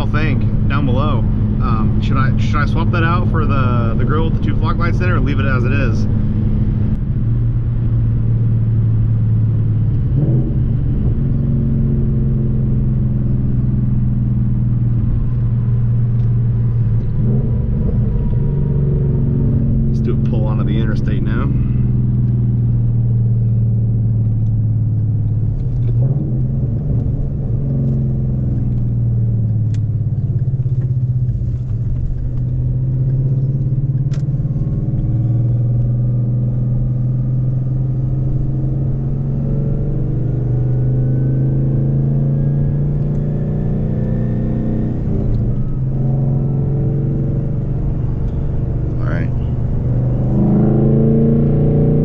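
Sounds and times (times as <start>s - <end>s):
car exhaust rumble: 0.0s - 52.0s.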